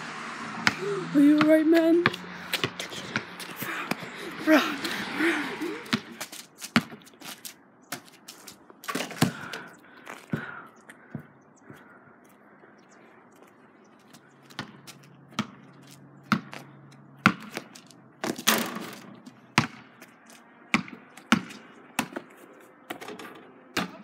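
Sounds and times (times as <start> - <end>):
basketball bouncing on asphalt: 0.5 - 4.1, 5.6 - 11.8, 13.4 - 24.0.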